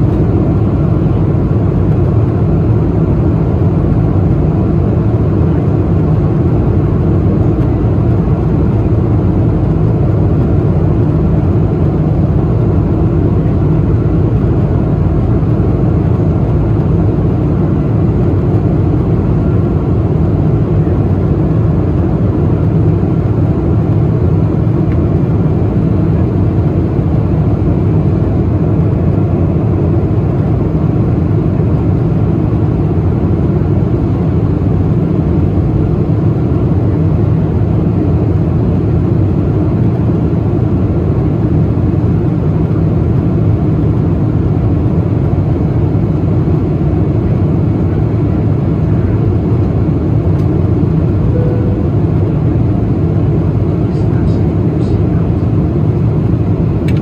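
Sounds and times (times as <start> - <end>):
airplane cabin noise: 0.0 - 57.0.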